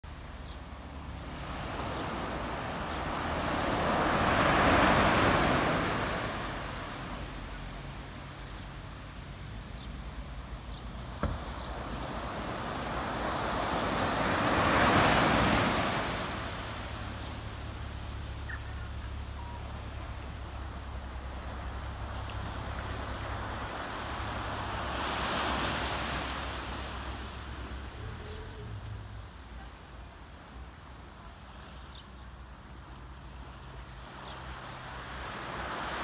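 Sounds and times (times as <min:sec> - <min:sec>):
waves washing up a beach: 0:00.1 - 0:36.0.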